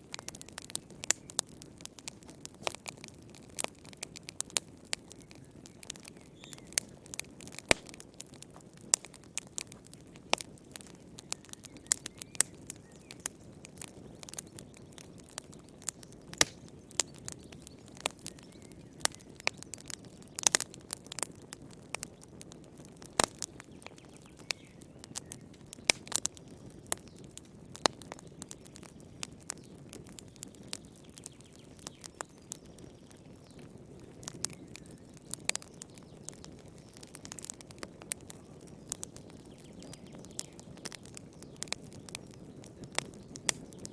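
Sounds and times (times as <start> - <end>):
campfire pops and snaps: 0.0 - 43.9.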